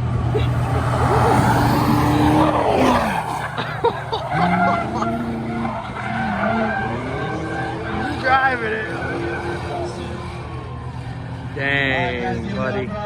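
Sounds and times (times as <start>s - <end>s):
car engine running: 0.0s - 13.0s
car tires squealing: 0.0s - 13.0s.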